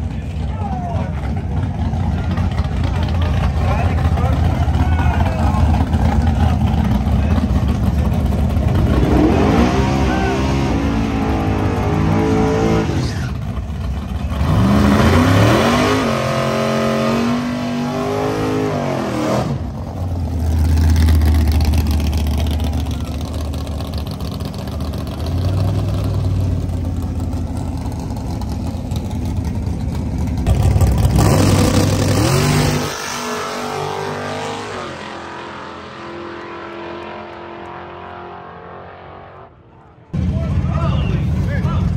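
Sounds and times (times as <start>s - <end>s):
truck engines accelerating hard: 0.0s - 41.9s.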